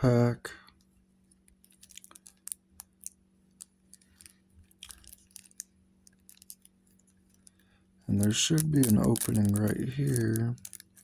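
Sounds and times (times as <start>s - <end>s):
packaging crinkling: 1.4s - 11.0s.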